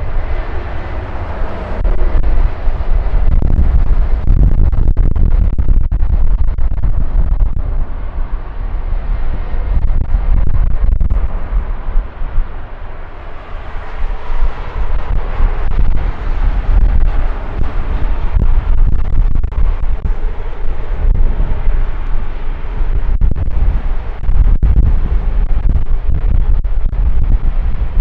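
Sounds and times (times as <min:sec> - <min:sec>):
jet engines rumbling: 0:00.0 - 0:28.0
wind on microphone: 0:00.0 - 0:28.0.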